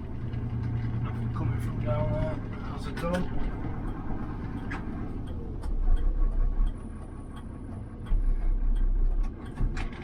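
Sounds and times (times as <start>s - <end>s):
diesel truck engine accelerating: 0.0s - 10.0s.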